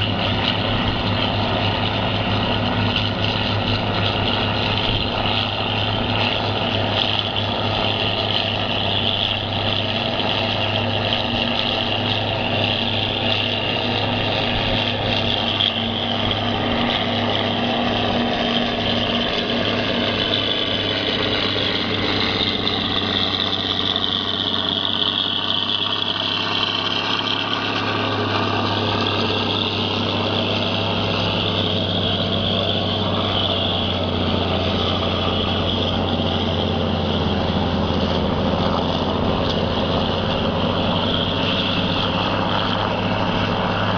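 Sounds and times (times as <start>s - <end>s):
heavy diesel engines: 0.0s - 43.9s
high whine: 0.0s - 43.9s.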